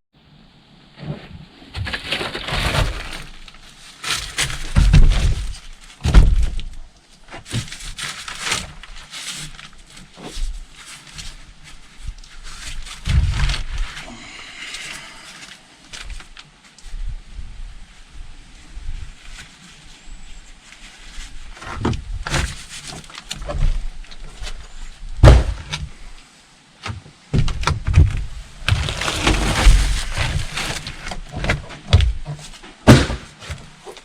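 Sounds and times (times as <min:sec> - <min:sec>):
boat floor cracking and crunching: 0:01.0 - 0:16.8, 0:21.2 - 0:26.0, 0:26.8 - 0:34.0.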